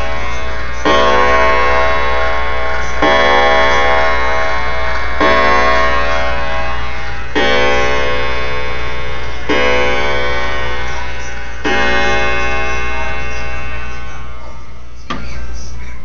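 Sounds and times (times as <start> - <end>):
clock striking on wire gong: 0.0 - 15.4.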